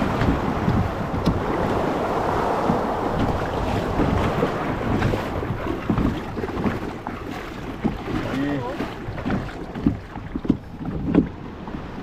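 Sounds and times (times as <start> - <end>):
sea water washing: 0.0 - 12.0
wind buffeting microphone: 0.0 - 12.0.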